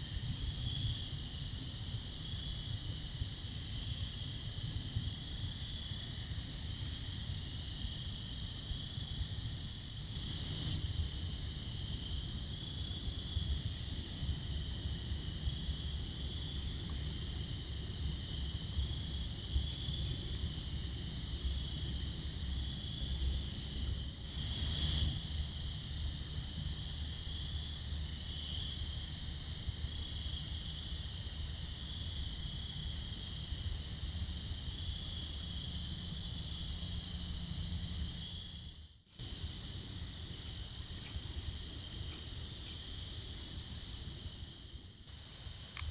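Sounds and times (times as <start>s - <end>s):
crickets trilling: 0.0s - 45.9s.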